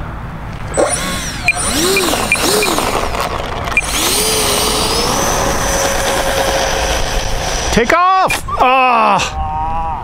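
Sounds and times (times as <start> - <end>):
electric ducted fan whine: 0.0 - 9.0.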